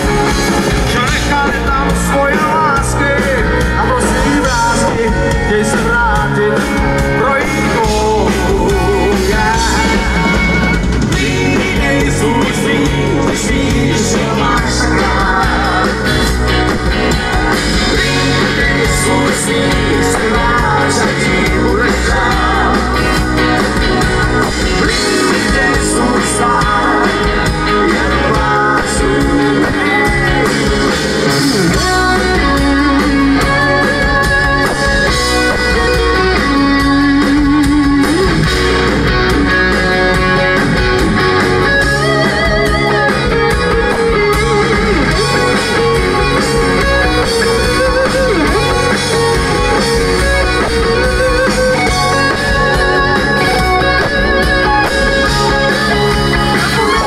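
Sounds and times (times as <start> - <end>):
electric guitar: 0.0 - 57.0
rock band playing: 0.0 - 57.0.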